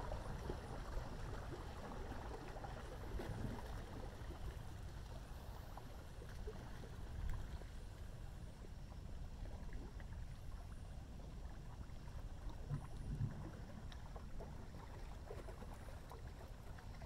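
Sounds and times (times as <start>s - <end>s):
water lapping and splashing: 0.0s - 17.0s.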